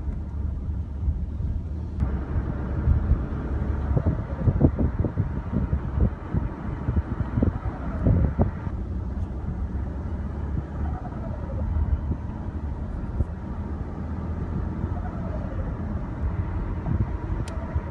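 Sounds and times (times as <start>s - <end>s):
car engine low rumble: 0.0s - 17.9s.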